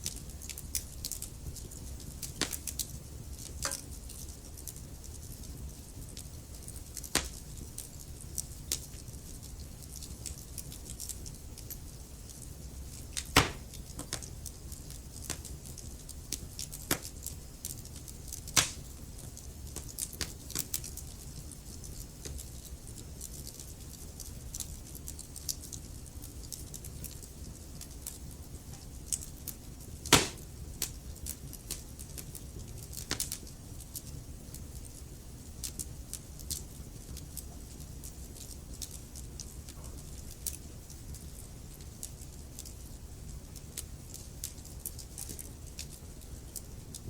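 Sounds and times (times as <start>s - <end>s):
low fire rumble: 0.0s - 47.0s
wood fire crackling and popping: 0.0s - 47.0s.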